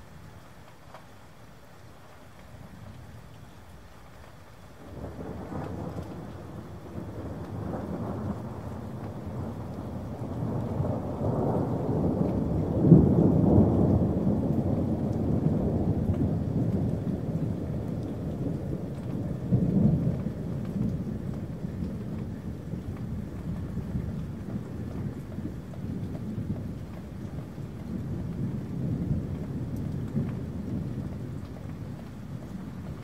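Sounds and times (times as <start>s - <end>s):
rain: 0.0s - 33.0s
rolling thunder: 4.8s - 33.0s.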